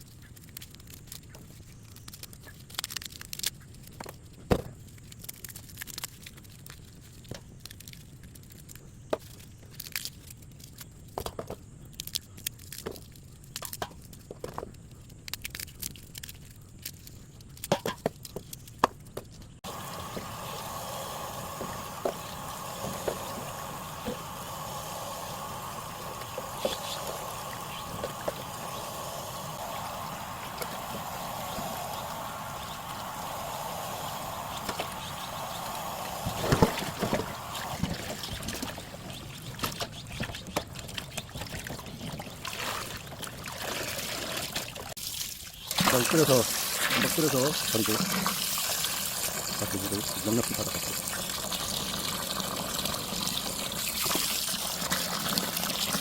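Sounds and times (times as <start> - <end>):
sharp crackles and clicks: 0.0 - 51.6
water boiling with pops: 0.0 - 56.0.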